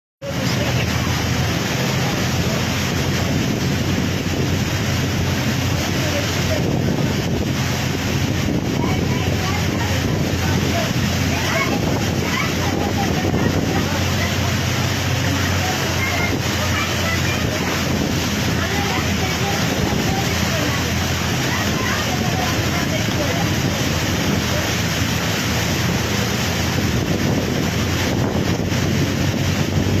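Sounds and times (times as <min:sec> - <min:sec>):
heavy rain: 0:00.2 - 0:30.0
wind buffeting the microphone: 0:00.2 - 0:30.0
wind rushing: 0:00.6 - 0:30.0.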